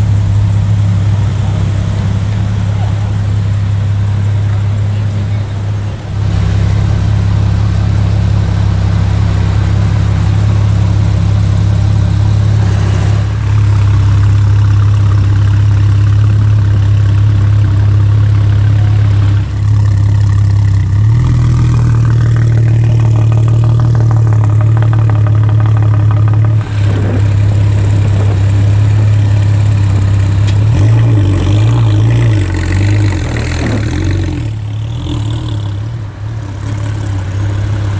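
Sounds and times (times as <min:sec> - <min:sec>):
sports car engine idling: 0:00.0 - 0:37.9.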